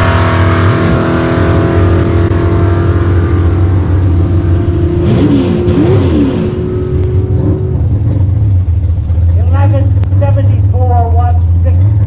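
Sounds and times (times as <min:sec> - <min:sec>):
car engine rumble: 0:00.0 - 0:12.0
engine revving: 0:00.0 - 0:12.0.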